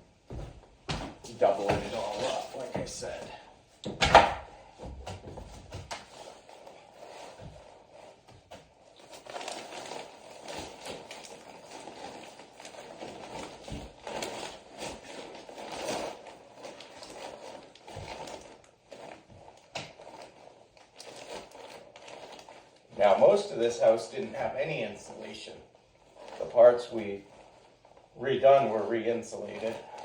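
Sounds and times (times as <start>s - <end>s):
insulation crinkling and rustling: 0.0s - 30.0s.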